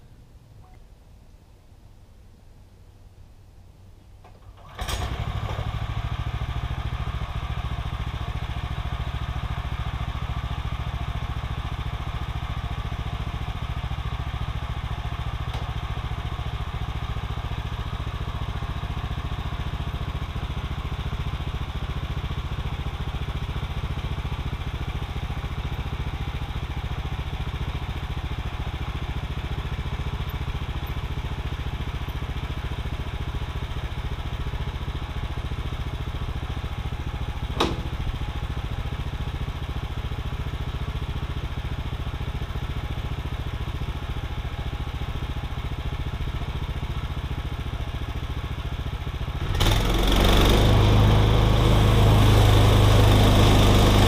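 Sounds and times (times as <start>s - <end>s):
sawmill gas engine running: 4.6s - 54.0s.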